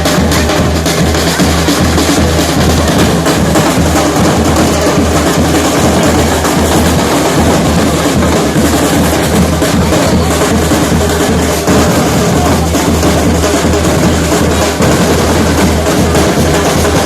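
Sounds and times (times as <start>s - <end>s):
loud music with pounding drums: 0.0s - 17.0s.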